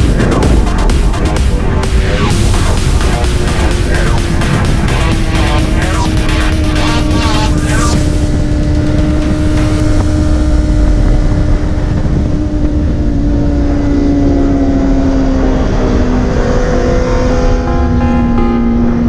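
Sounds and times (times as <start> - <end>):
motorcycle engine: 0.0 - 19.0
wind noise rushing: 0.0 - 19.0.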